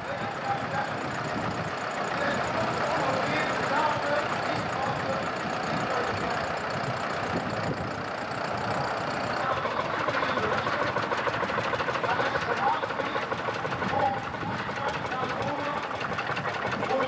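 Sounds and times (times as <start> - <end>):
tractor diesel engine passing: 0.0 - 17.0
tractor engine with fast even beat: 0.0 - 17.0.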